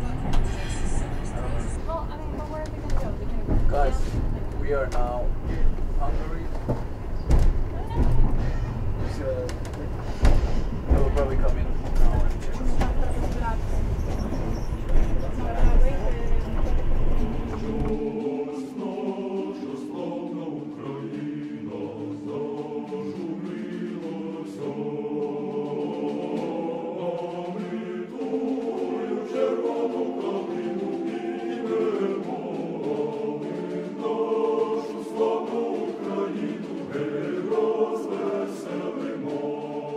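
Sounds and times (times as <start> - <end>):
choir singing in harmony: 0.0 - 9.3, 12.2 - 39.9.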